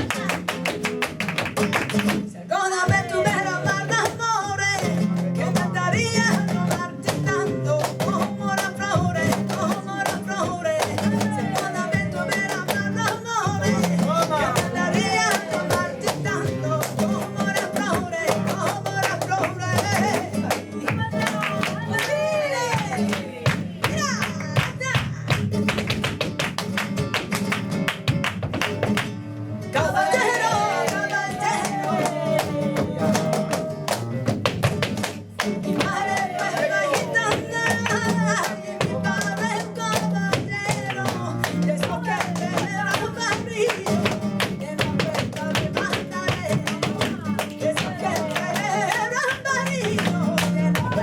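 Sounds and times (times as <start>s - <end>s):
flamenco guitar playing: 0.0s - 51.0s
person singing: 2.5s - 25.2s, 29.8s - 34.3s, 35.5s - 51.0s.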